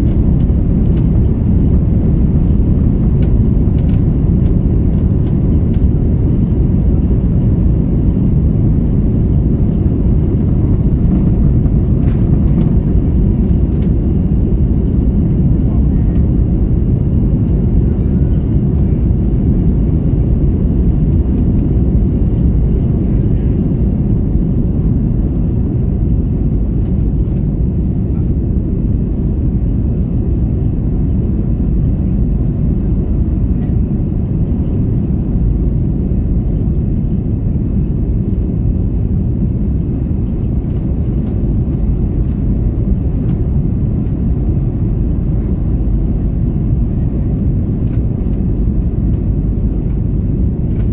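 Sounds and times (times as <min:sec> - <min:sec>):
jet engine roar in cabin: 0:00.0 - 0:50.9.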